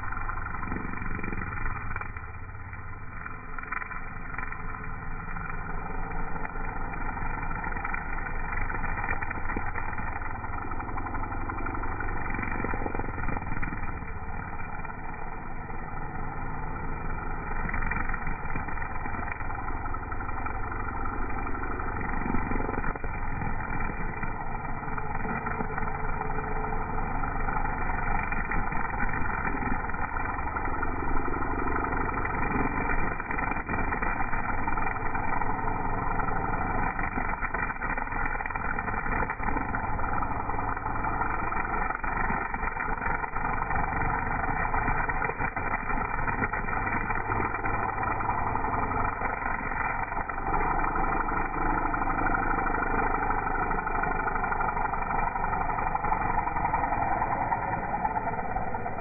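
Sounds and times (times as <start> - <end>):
string trimmer engine running: 0.0 - 59.0
trimmer line cutting grass: 0.0 - 59.0.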